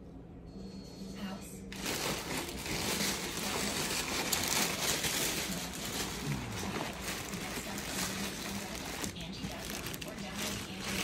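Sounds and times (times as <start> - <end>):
plastic bag and paper crinkling: 1.7 - 11.0.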